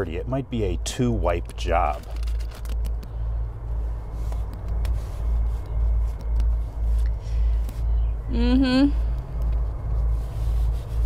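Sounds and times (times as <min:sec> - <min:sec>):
pulsing low outdoor rumble: 0:00.0 - 0:11.0.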